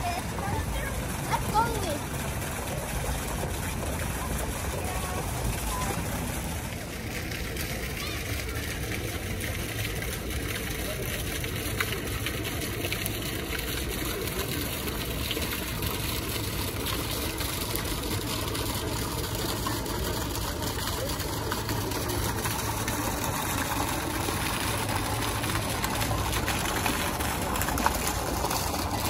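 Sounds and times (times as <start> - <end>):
fountain water splashing into pool: 0.0 - 29.0
murmur of passers-by: 0.0 - 29.0.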